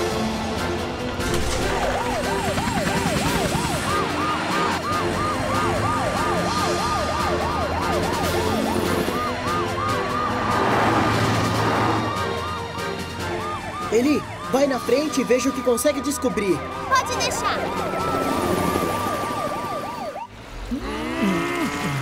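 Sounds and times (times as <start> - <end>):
high pulsing siren: 1.3 - 20.3
wailing cartoon siren: 1.6 - 20.3.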